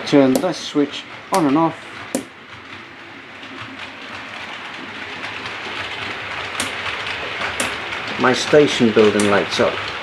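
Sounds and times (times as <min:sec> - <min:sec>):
model train rattling on track: 0:00.0 - 0:10.0.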